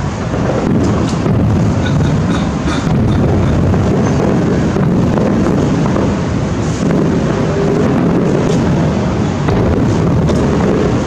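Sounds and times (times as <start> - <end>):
distant fireworks rumble: 0.0 - 11.0.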